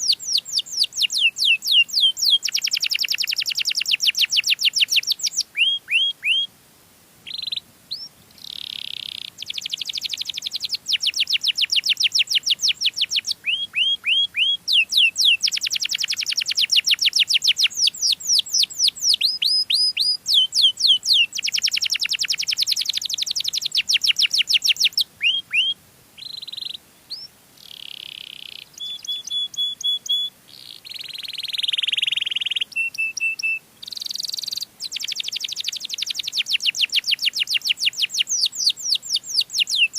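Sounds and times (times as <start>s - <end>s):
canary singing rapid trills: 0.0s - 6.5s, 7.3s - 39.9s.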